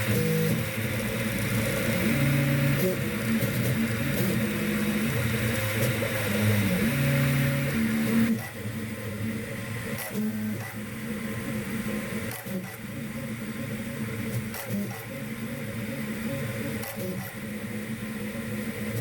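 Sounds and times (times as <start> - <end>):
printer stepper motors whining: 0.0 - 19.0.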